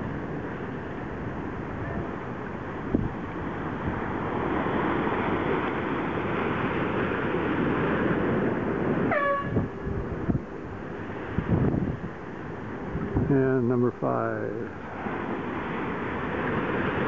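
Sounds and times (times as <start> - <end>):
choppy water: 0.0 - 17.0
wind rushing over microphone: 0.0 - 17.0.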